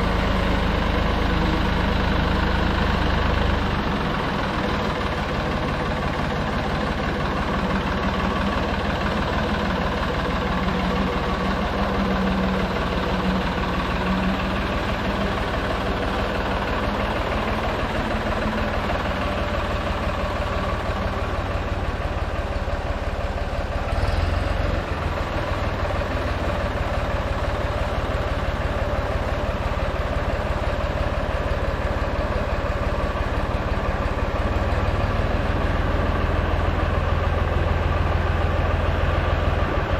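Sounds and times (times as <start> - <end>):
backhoe engine idling: 0.0 - 39.9.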